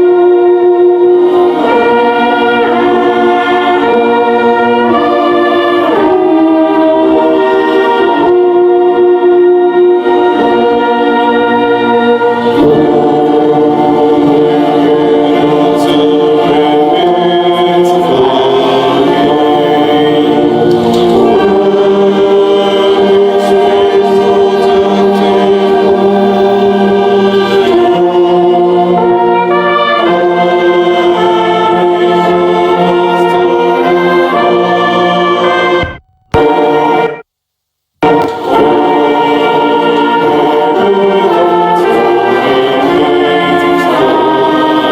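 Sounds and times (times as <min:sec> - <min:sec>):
choir singing: 0:00.0 - 0:37.2, 0:38.0 - 0:44.9
brass accompaniment: 0:00.0 - 0:37.3, 0:38.0 - 0:44.9.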